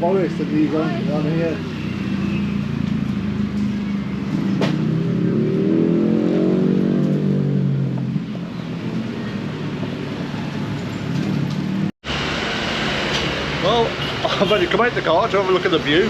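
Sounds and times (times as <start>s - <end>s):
vehicle engine speeding up: 0.1s - 14.0s.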